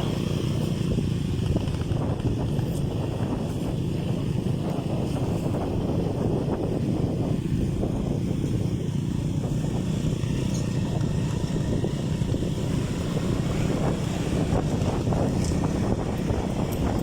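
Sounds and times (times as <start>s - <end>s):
boat motor rumbling: 0.0s - 17.0s
wind buffeting microphone: 0.0s - 17.0s.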